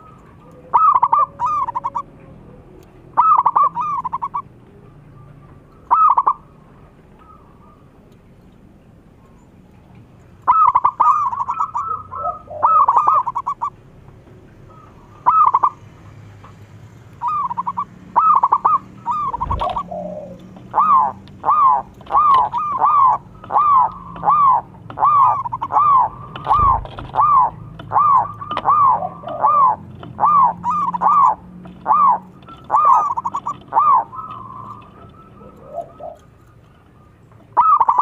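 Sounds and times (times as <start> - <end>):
dove cooing: 0.0 - 4.5, 5.7 - 6.6, 10.4 - 13.8, 14.7 - 15.8, 17.2 - 38.0.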